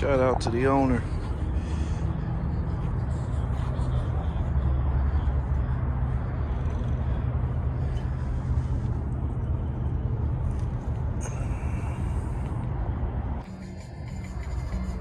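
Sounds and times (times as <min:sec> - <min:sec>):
outdoor background noise: 0:00.0 - 0:15.0
vehicle engines rumbling: 0:00.0 - 0:15.0.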